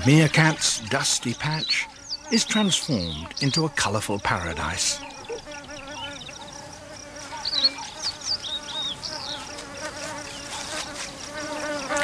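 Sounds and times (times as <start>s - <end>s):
flying insects buzzing: 0.0s - 12.0s.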